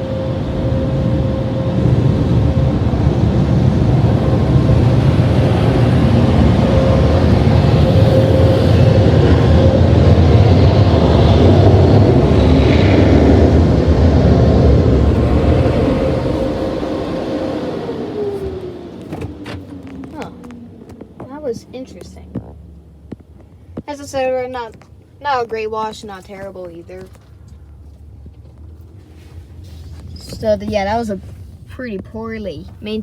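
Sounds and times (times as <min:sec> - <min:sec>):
car wash dryer blowing air: 0:00.0 - 0:27.5.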